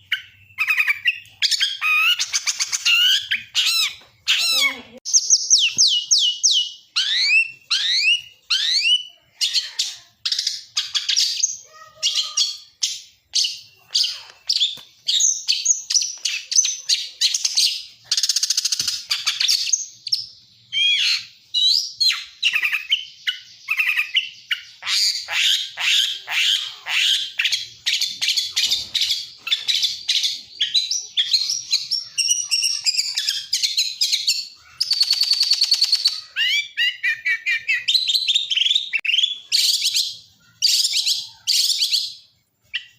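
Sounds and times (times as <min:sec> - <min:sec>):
songbird singing: 0:00.0 - 0:42.9.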